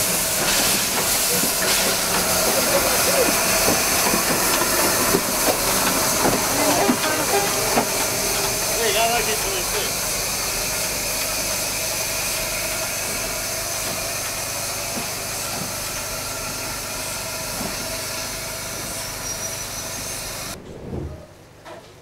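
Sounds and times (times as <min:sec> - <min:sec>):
steam locomotive hissing: 0:00.0 - 0:20.6.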